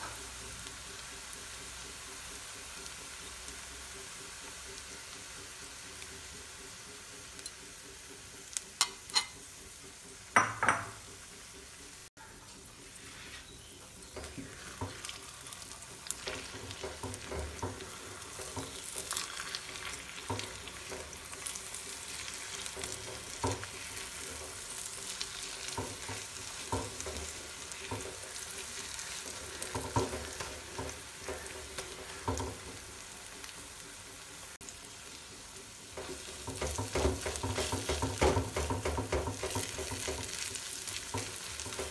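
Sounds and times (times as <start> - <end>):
egg sizzling in hot oil: 0.0 - 41.9.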